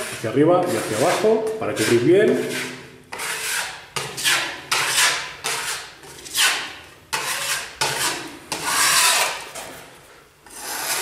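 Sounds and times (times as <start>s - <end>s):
putty knife scraping filler: 0.0s - 11.0s.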